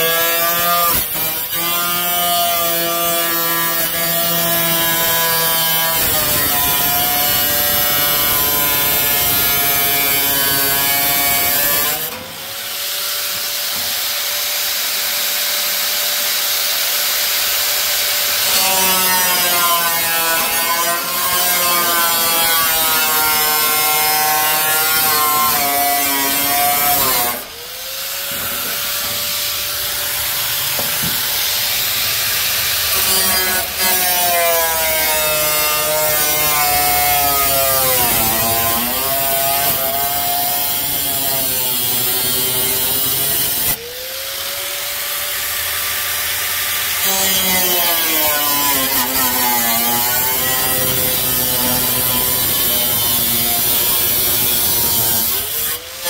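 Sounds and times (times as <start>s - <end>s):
angle grinder cutting metal: 0.0s - 56.0s.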